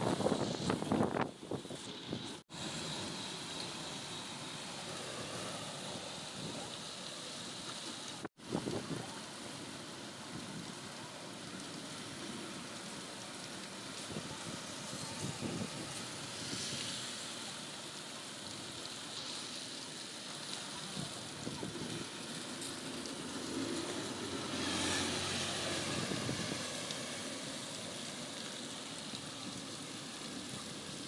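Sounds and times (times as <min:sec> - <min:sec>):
heavy rain on road: 0:00.0 - 0:31.0.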